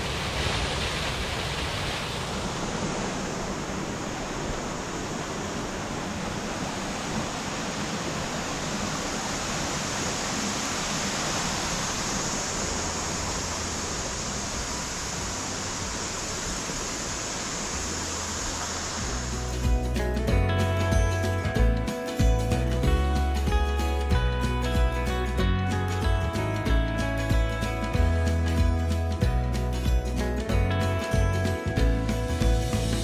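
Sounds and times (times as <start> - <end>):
waterfall and stream rushing: 0.0 - 33.0.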